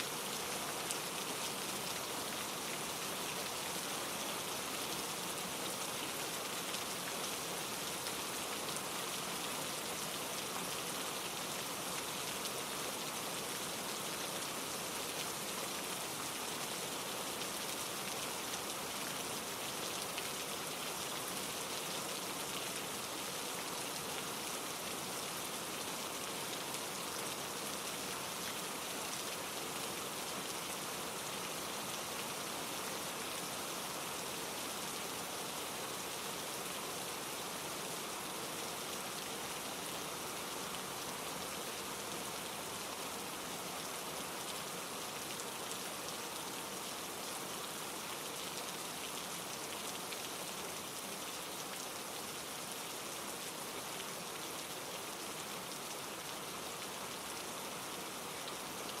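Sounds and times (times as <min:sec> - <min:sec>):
rain falling through trees: 0:00.0 - 0:59.0
stream running over rocks: 0:00.0 - 0:59.0.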